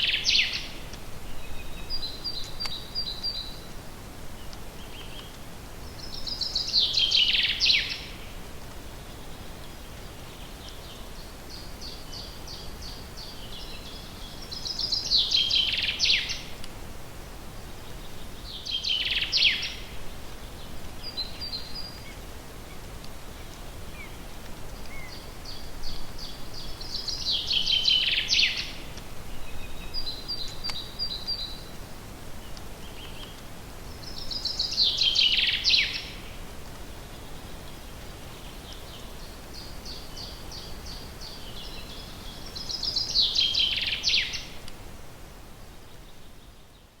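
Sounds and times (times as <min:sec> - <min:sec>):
songbird singing: 0:00.0 - 0:16.8, 0:17.4 - 0:44.8, 0:45.5 - 0:47.0.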